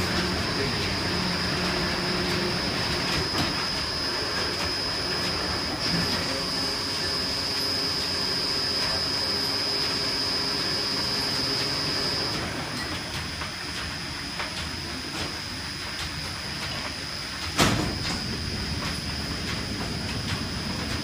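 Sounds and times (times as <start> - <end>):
machine high whine: 0.0 - 21.0.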